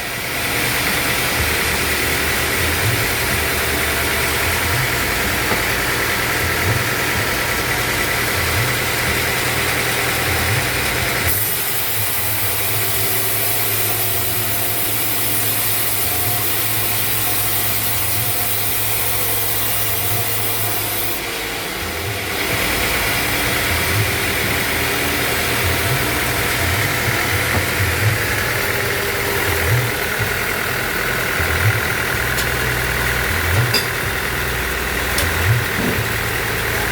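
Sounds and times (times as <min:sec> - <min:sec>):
band sawmill machinery running: 0:00.0 - 0:36.9.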